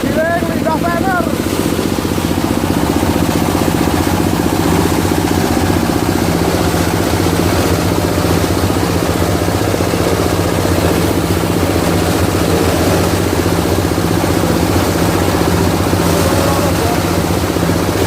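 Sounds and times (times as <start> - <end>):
chopper grinder machine: 0.0 - 18.0
diesel engine running: 0.0 - 18.0.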